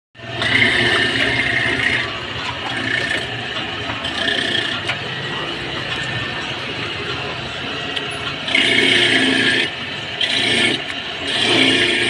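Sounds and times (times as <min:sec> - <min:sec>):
coconut grinding rasp: 0:00.2 - 0:12.0
grinder motor hum: 0:00.2 - 0:12.0.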